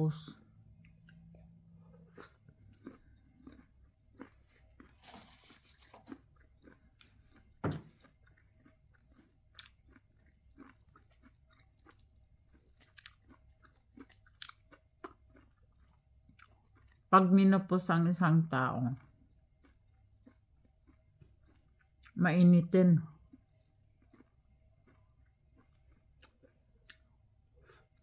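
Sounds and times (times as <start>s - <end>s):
chewing sweet corn crunches: 0.2s - 17.1s, 18.8s - 22.2s, 23.1s - 28.0s.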